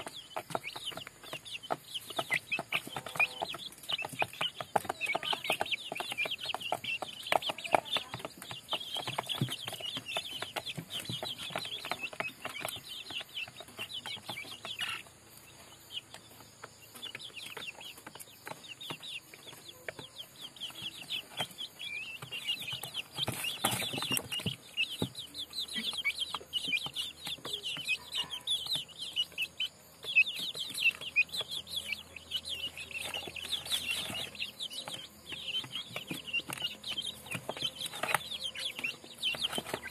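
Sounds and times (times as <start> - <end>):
chicks peeping and clucking: 0.0 - 39.9.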